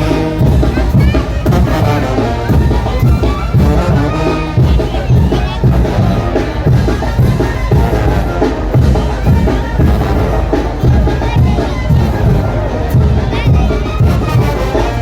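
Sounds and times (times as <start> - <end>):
brass band melody: 0.0 - 15.0
steady drum beat: 0.0 - 15.0.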